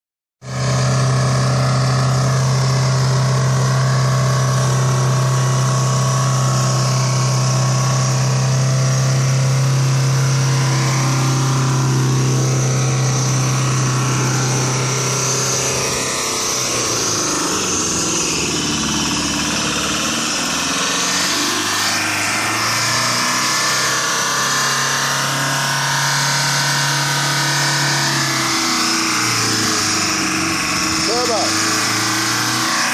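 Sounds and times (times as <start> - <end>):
diesel engine over-revving: 0.4 - 32.9.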